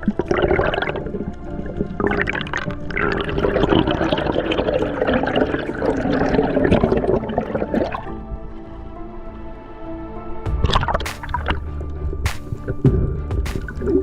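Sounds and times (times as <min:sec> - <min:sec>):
water churning and bubbling: 0:00.0 - 0:08.9, 0:10.5 - 0:14.0.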